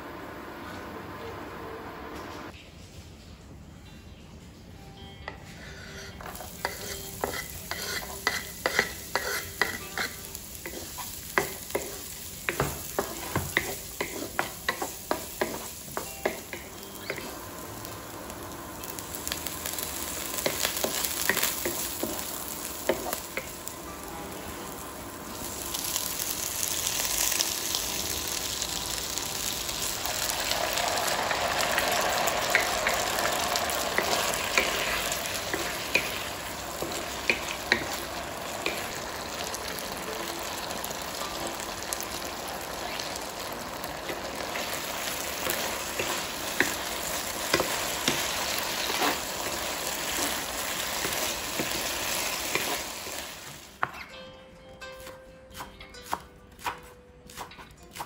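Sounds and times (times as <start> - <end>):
food sizzling in oil: 6.2 - 53.8.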